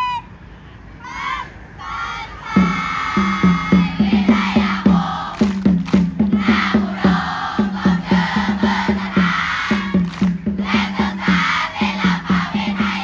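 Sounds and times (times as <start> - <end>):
crowd singing and chanting: 1.0 - 13.0
rapid drumbeats: 2.4 - 13.0.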